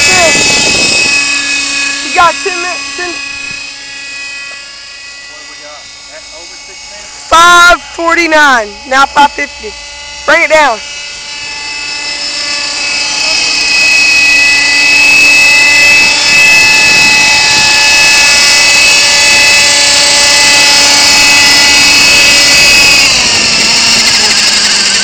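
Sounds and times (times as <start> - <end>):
model helicopter engine whine: 0.0 - 25.0.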